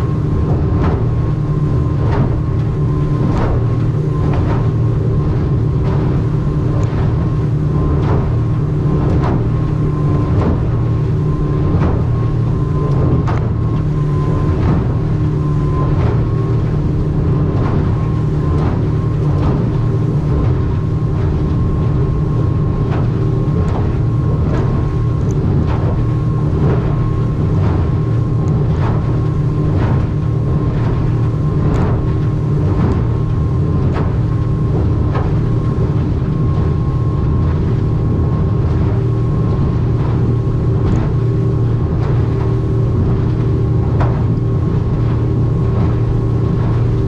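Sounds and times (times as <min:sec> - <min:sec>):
hull slapping waves: 0:00.0 - 0:47.0
outboard motor drone: 0:00.0 - 0:47.0.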